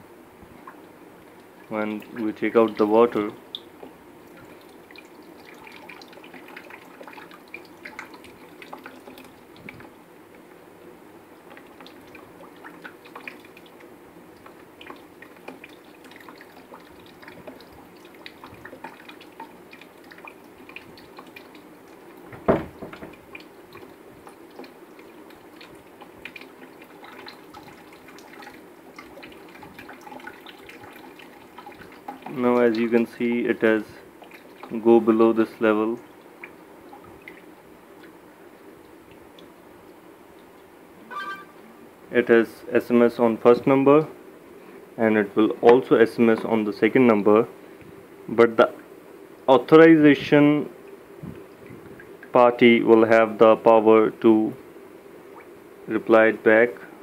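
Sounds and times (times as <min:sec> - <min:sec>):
water trickling into a tub: 0:00.1 - 0:57.0.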